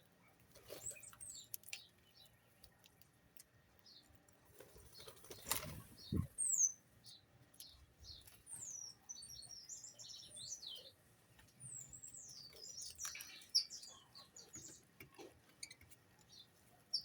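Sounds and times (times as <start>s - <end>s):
small birds chirping and twittering: 0.0s - 17.0s.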